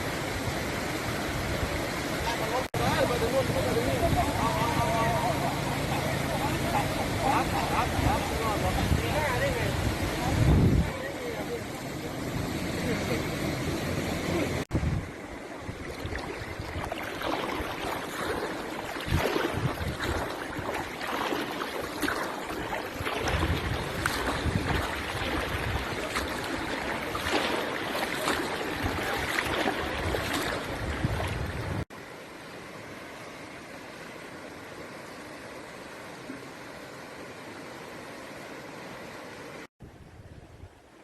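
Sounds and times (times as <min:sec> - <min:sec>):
floodwater rushing and splashing: 0:00.0 - 0:39.7.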